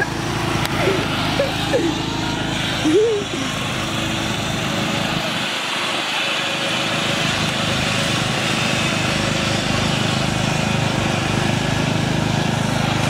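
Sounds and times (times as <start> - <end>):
riding lawn mower engine: 0.0 - 13.0.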